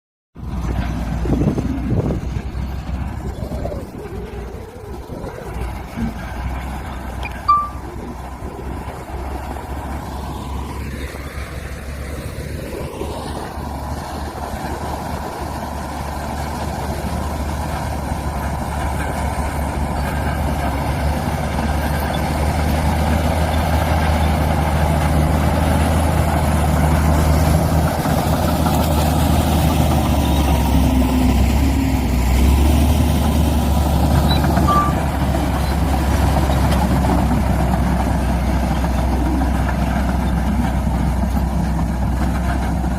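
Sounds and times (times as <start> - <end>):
heavy diesel engines running: 0.4 - 42.9.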